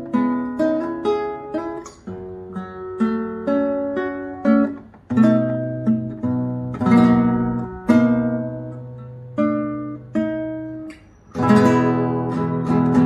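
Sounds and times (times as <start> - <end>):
classical guitar fingerstyle: 0.0 - 13.0.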